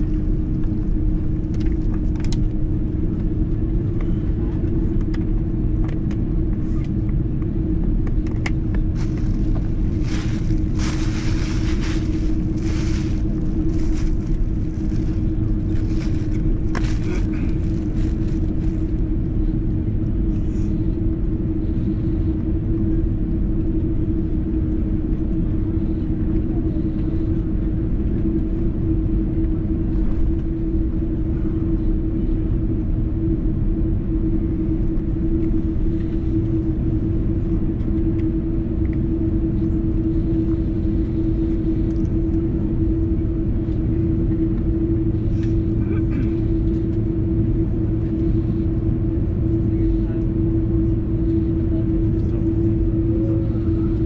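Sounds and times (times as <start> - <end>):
airplane cabin rumble: 0.0 - 54.0
constant hum: 0.0 - 54.0.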